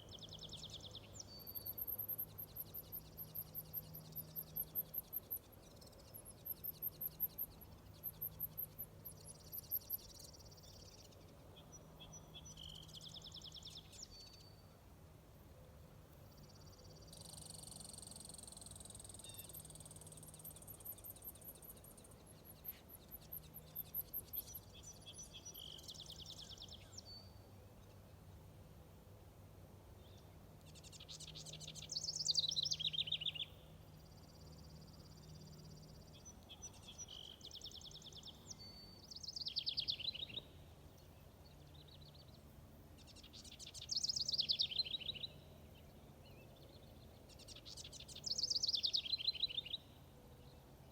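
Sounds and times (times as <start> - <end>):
warbler singing: 0.0 - 14.7, 16.3 - 28.0, 30.0 - 50.0
thin high bird notes and buzzes: 0.0 - 15.5, 16.1 - 29.1, 29.9 - 50.9.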